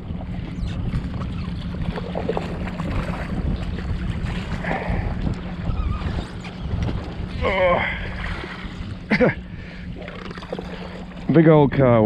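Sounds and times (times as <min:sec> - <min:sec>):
water slapping hull: 0:00.0 - 0:12.0
wind buffeting microphone: 0:00.0 - 0:12.0.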